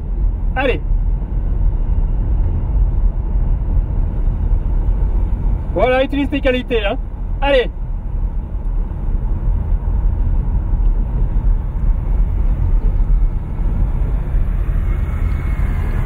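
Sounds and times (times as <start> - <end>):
car driving heard from cabin: 0.0 - 16.0.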